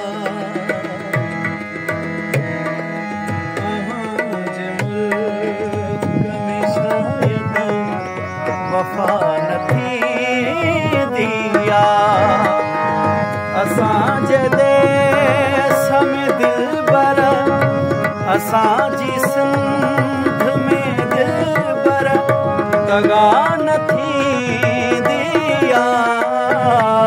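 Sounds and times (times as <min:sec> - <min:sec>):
dholak hand drum rhythm: 0:00.0 - 0:27.0
harmonium playing chords: 0:00.0 - 0:27.0
person singing wordless notes: 0:00.0 - 0:27.0.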